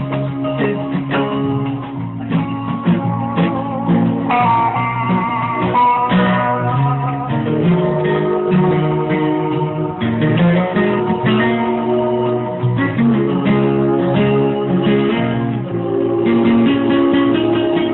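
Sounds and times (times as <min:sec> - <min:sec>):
higher guitar melody: 0:00.0 - 0:17.9
plucked guitar music: 0:00.0 - 0:17.9.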